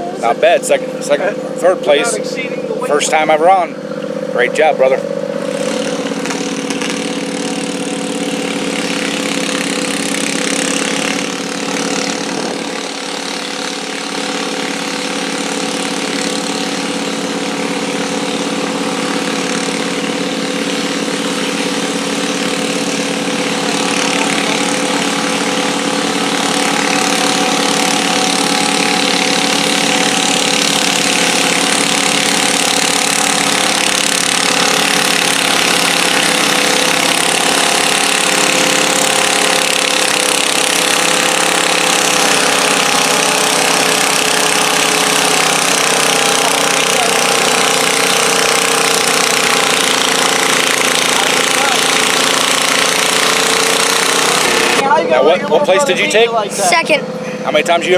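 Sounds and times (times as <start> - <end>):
garden tractor engine running: 0.0 - 57.9.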